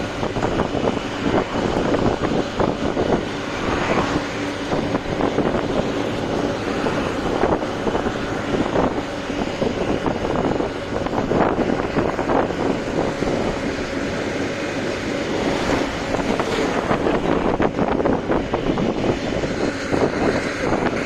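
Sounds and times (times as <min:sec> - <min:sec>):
road noise: 0:00.0 - 0:21.0
truck engine: 0:00.0 - 0:21.0
wind: 0:00.0 - 0:21.0.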